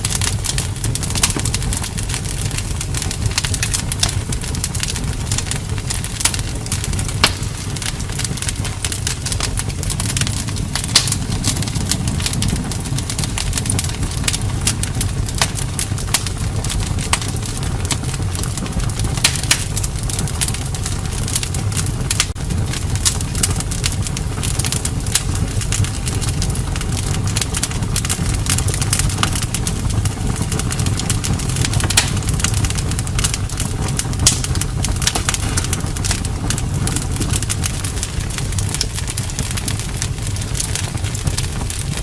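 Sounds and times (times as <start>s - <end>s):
campfire crackling and popping: 0.0s - 42.0s.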